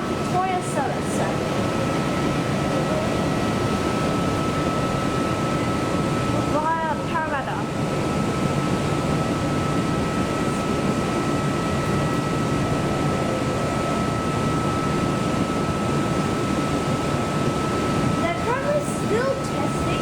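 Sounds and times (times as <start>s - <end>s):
train air-conditioning hum: 0.0s - 20.0s.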